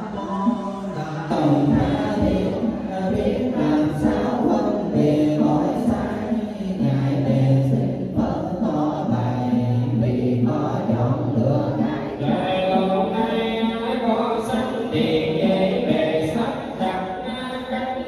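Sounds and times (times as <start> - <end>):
group chanting in unison: 0.0 - 18.0.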